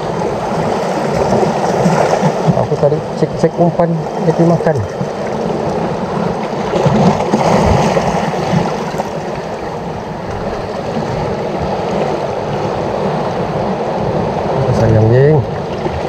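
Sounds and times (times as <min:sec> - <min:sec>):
seawater lapping against rocks: 0:00.0 - 0:16.0.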